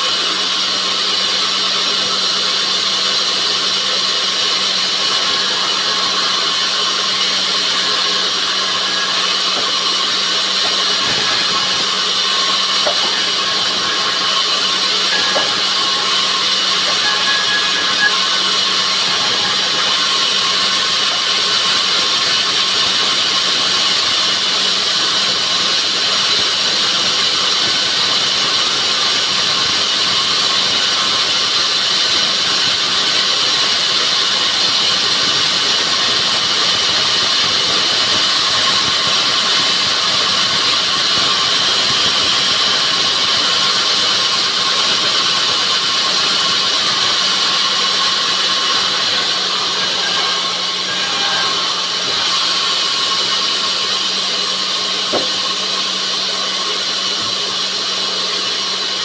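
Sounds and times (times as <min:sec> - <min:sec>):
band saw running: 0:00.0 - 0:59.0.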